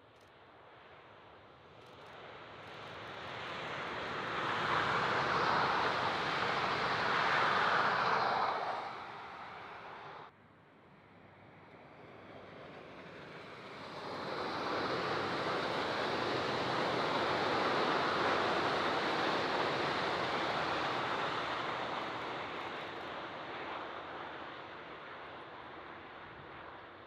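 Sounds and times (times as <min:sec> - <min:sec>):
train passing at speed: 0:02.7 - 0:10.3, 0:11.3 - 0:26.9.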